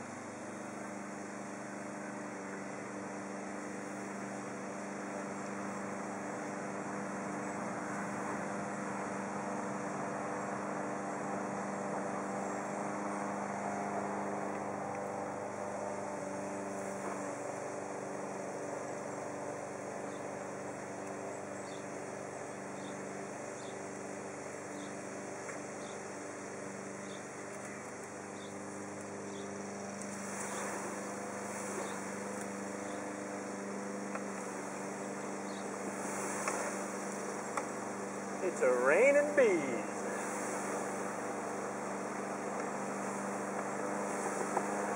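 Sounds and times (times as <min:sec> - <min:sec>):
bee swarm buzzing: 0:00.7 - 0:44.9.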